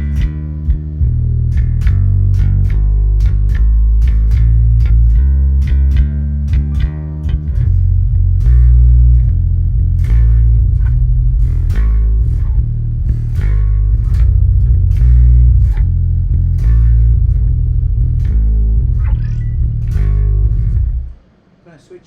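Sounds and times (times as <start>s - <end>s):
electric bass riff: 0.0s - 21.2s.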